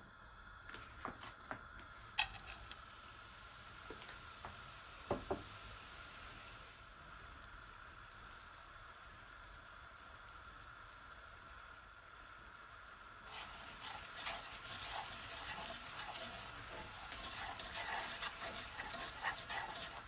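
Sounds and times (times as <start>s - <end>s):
sugar sizzling in a pan: 0.0s - 20.0s.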